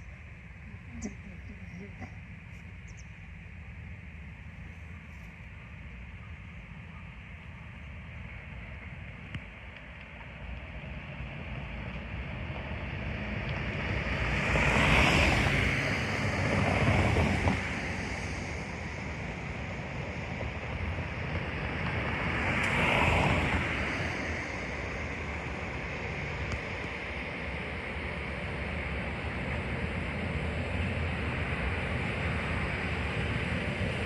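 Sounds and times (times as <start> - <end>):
vehicles passing by: 0.0 - 34.0.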